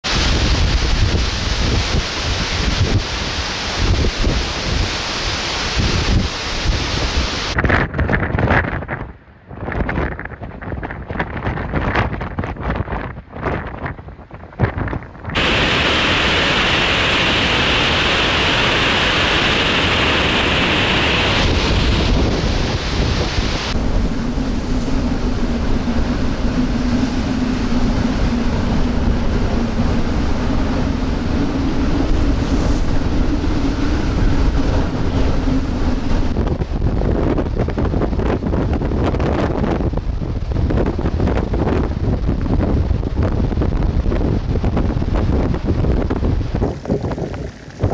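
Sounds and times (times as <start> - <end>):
large waves breaking: 0.0 - 47.9
strong wind on microphone: 0.0 - 47.9.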